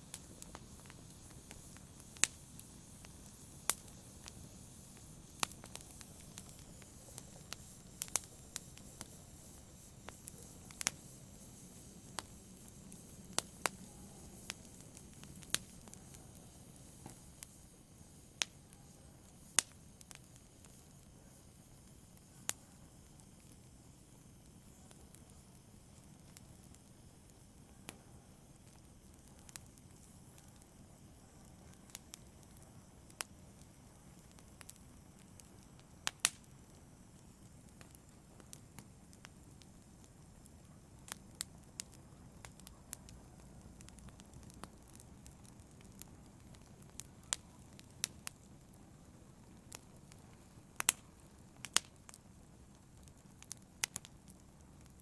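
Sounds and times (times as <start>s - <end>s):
fire hissing and crackling: 0.0s - 55.0s
loud pops of fire: 0.0s - 55.0s.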